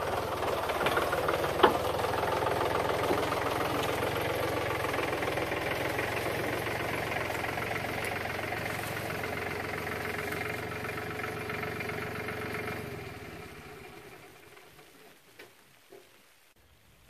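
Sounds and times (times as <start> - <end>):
engine idling and shutting off: 0.0 - 16.0.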